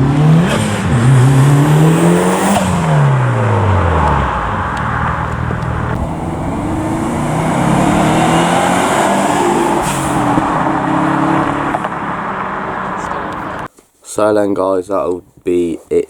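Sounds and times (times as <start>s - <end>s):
car engine revving: 0.0s - 13.7s
road and exhaust noise: 0.0s - 13.7s.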